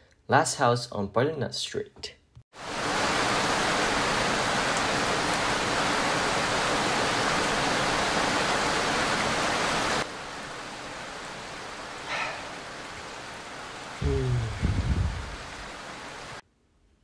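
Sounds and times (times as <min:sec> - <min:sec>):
heavy rainfall hiss: 0:02.6 - 0:16.4.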